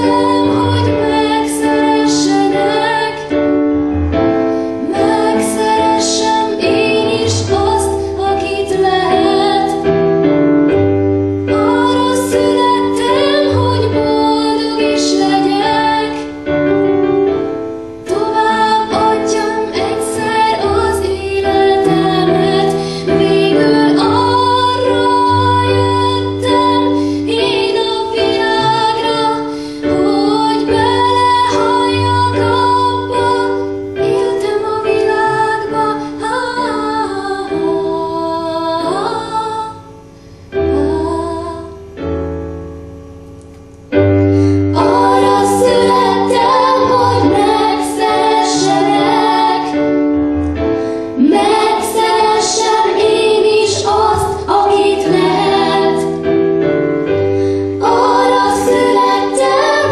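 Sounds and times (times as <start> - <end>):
girls singing into microphones: 0.0 - 3.7, 4.5 - 10.3, 11.4 - 16.5, 17.8 - 42.0, 44.3 - 50.2, 50.8 - 59.9
electronic keyboard: 0.0 - 59.9.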